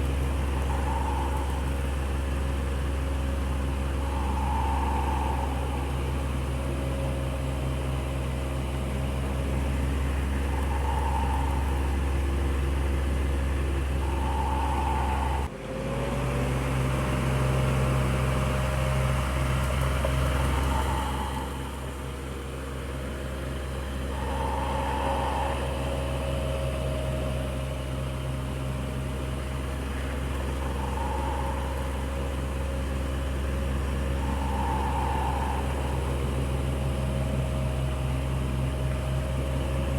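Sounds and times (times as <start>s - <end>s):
electric fan running: 0.0s - 15.5s, 16.3s - 39.9s
soft swish of fan: 0.0s - 15.5s, 17.1s - 39.7s.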